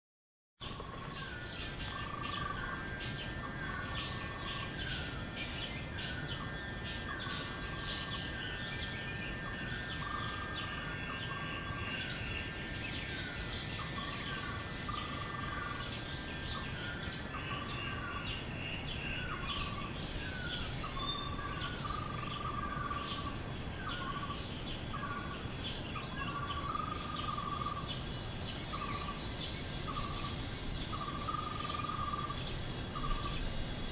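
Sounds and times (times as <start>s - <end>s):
insects droning: 0.6s - 33.9s.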